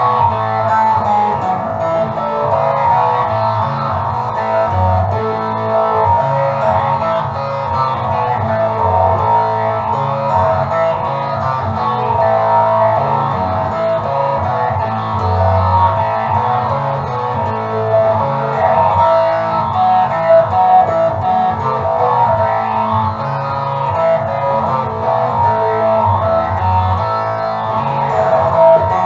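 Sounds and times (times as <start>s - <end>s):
instrumental music with bass: 0.0s - 29.0s.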